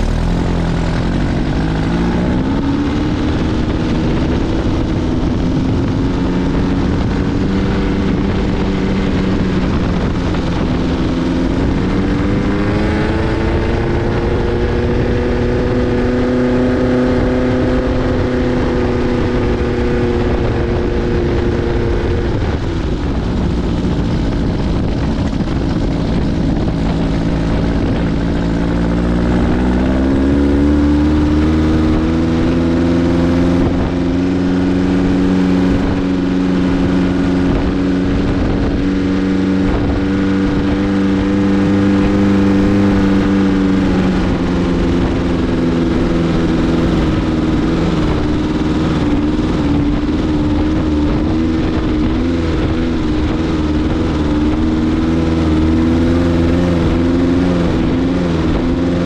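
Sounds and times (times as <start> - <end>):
dune buggy engine running: 0.0 - 59.0
wind and tyre noise: 0.0 - 59.0.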